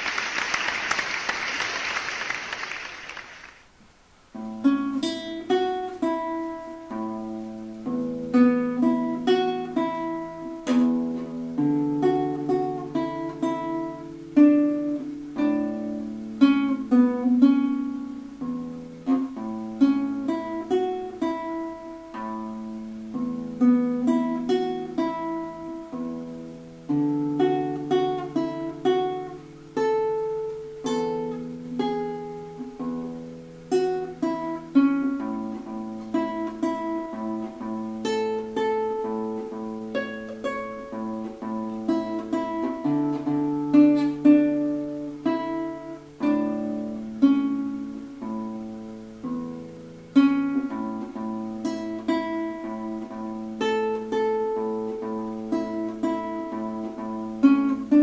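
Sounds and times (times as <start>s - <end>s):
fingerpicked classical guitar: 3.7s - 58.0s.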